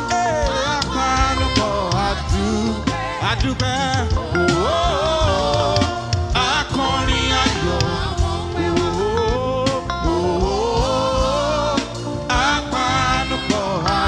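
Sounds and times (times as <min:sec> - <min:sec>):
bending melodic lead line: 0:00.0 - 0:14.0
live praise band playing: 0:00.0 - 0:14.0.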